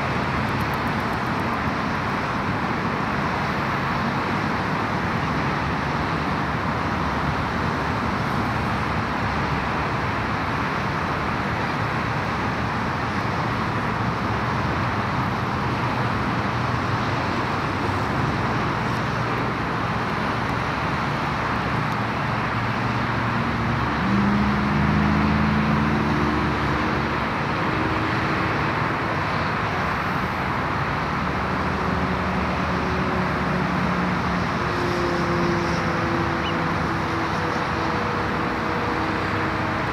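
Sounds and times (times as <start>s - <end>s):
engine hum with low tones: 0.0s - 39.9s
road traffic noise: 0.0s - 39.9s.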